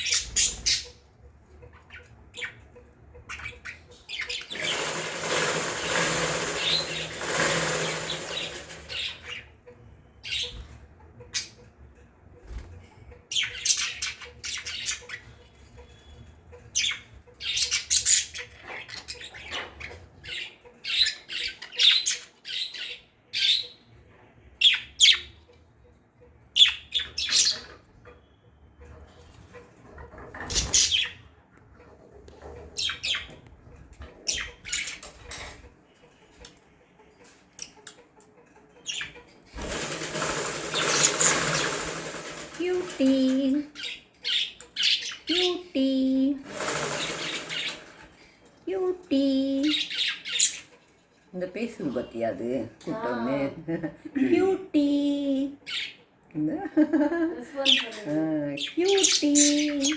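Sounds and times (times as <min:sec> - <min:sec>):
lovebirds squawking and chirping: 0:00.0 - 0:53.5, 0:55.5 - 0:59.9.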